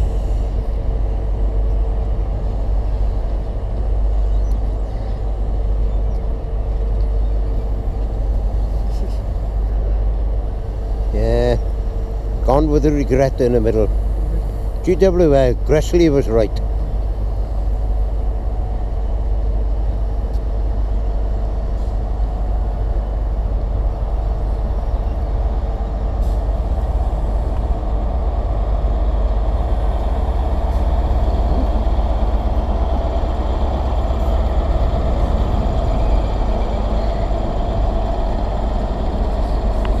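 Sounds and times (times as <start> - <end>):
diesel train engine rumble: 0.0 - 40.0.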